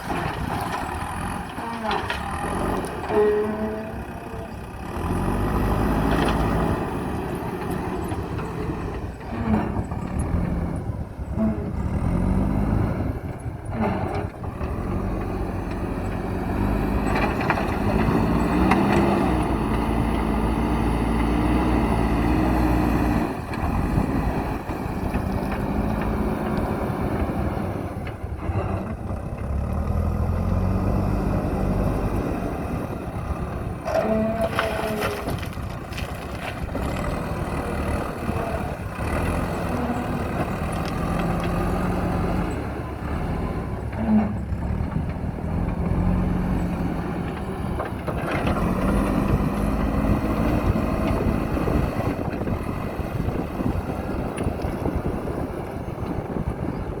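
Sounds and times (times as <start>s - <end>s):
diesel engine revving under load: 0.0s - 57.0s.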